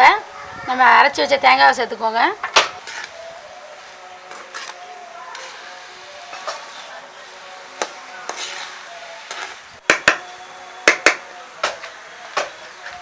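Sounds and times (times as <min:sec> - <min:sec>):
low sizzle: 0:00.0 - 0:13.0.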